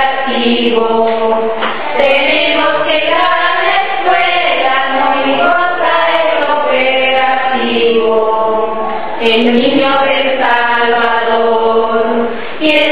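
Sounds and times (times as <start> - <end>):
choir singing: 0.0 - 12.9.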